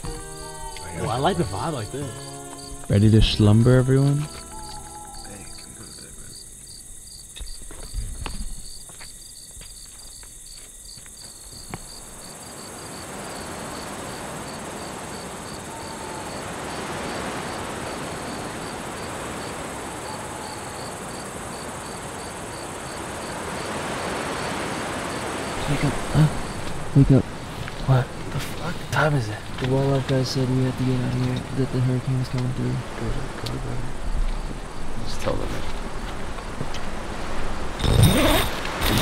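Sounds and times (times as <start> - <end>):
crickets chirping: 0.0 - 39.0.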